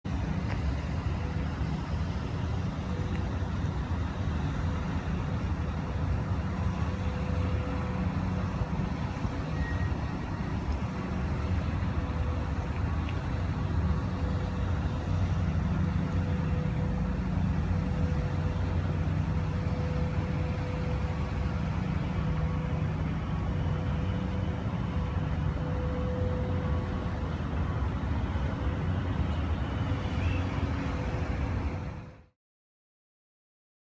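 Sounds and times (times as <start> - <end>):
vehicle engine rumble: 0.1 - 32.3.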